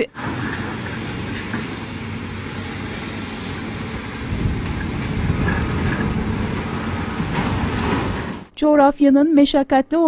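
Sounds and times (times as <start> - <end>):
dump truck driving on dirt: 0.2 - 8.5.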